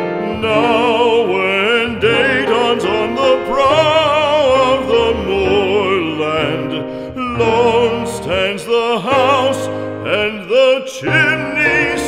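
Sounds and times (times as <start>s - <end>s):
classical voice singing with vibrato: 0.0s - 12.0s
instrumental accompaniment: 0.0s - 12.0s.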